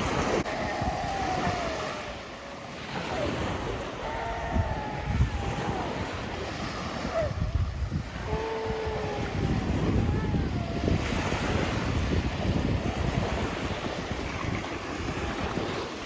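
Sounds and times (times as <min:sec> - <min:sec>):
sea waves washing on beach: 0:00.0 - 0:16.0
wind gusting on microphone: 0:00.0 - 0:16.0.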